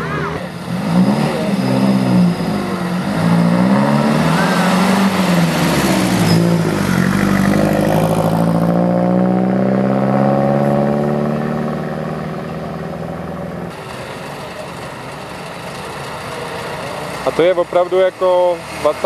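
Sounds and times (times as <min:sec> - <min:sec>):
car engine passing and accelerating: 0:00.0 - 0:19.0.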